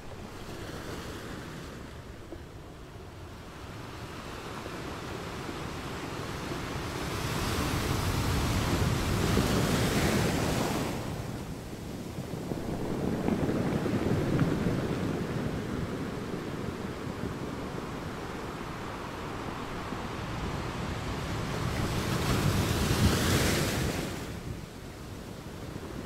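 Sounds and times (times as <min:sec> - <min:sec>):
waves washing in and out: 0:00.0 - 0:26.0.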